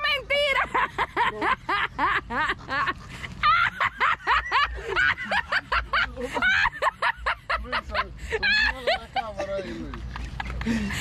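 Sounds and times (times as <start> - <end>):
people laughing hard: 0.4 - 11.0.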